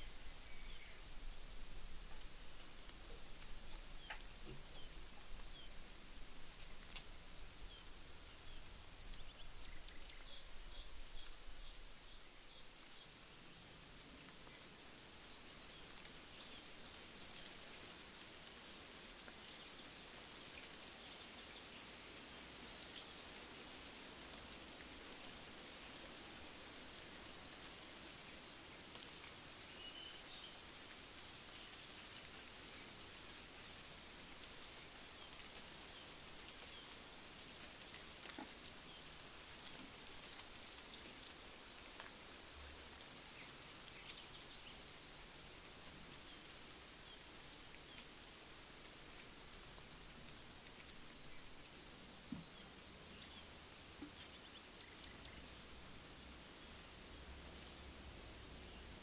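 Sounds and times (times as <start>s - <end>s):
light rain pattering: 0.0s - 59.0s.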